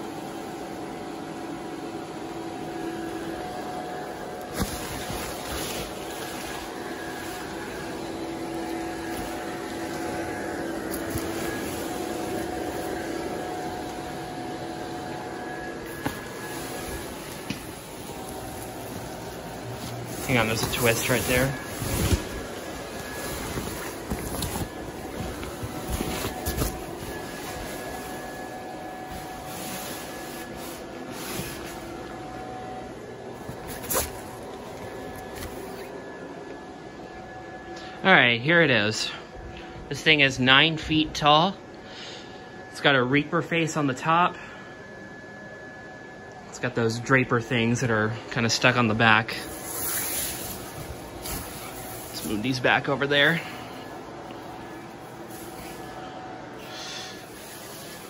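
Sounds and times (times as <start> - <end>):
electric blower fan running: 0.0 - 58.0.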